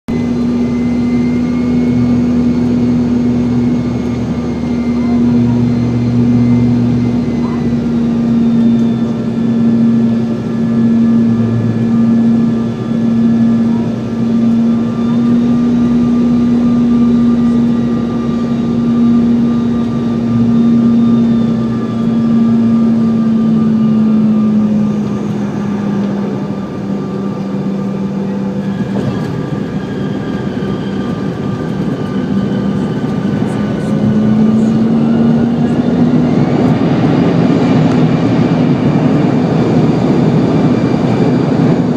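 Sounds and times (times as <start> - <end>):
jet engine hum with whine: 0.1 - 41.9.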